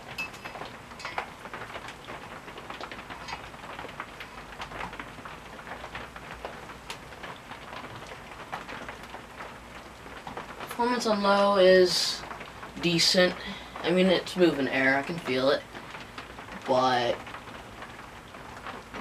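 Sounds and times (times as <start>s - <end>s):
rain tapping: 0.0s - 19.0s.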